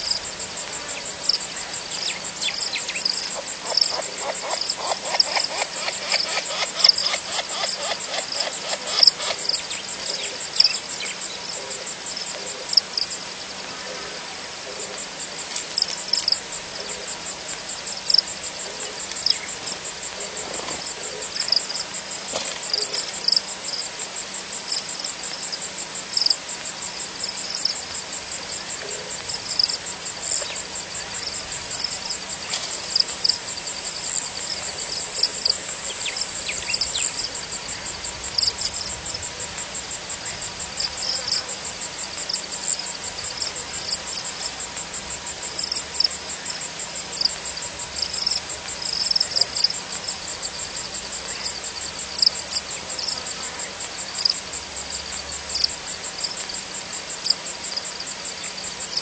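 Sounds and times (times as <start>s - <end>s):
crickets trilling: 0.0s - 59.0s
faint hiss: 0.0s - 59.0s
insects chirping: 0.0s - 59.0s.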